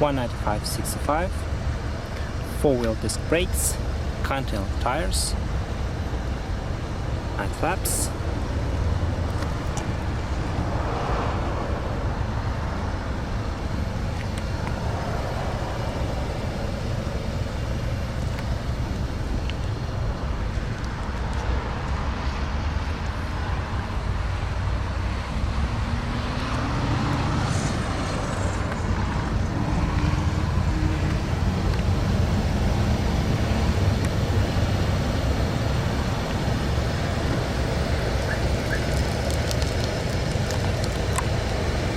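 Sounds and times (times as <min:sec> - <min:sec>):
traffic rumble: 0:00.0 - 0:41.9.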